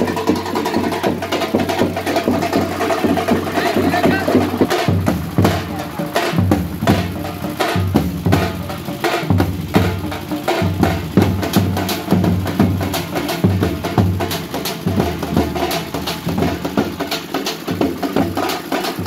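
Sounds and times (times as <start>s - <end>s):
bass drums booming: 0.0s - 19.0s.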